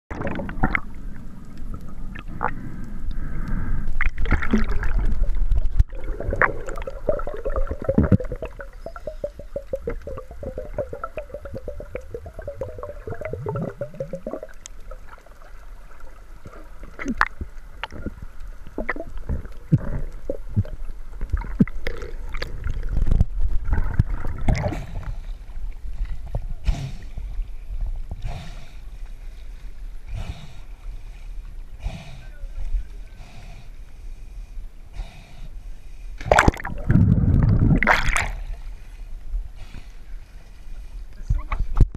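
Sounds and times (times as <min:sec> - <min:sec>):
muffled underwater water movement: 0:00.1 - 0:41.9.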